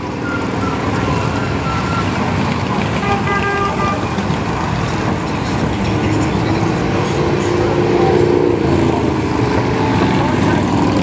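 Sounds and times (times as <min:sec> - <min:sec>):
motorcycles passing: 0:00.0 - 0:11.0.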